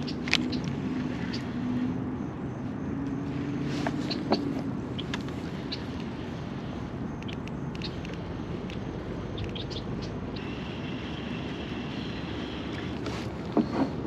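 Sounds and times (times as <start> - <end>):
steady high drone: 0.0 - 13.4.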